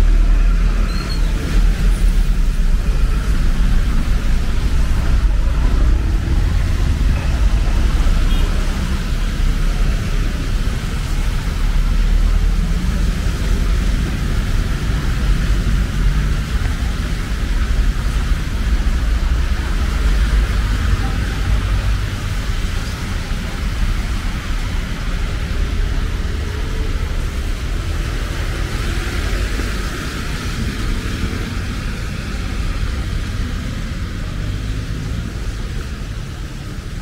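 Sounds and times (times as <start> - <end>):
city traffic: 0.0 - 37.0.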